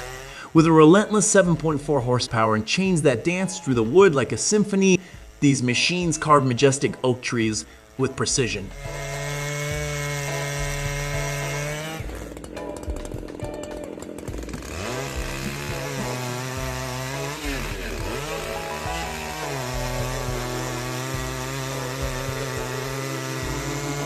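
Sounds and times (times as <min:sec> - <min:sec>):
chainsaw cutting through wood: 0:00.0 - 0:24.0.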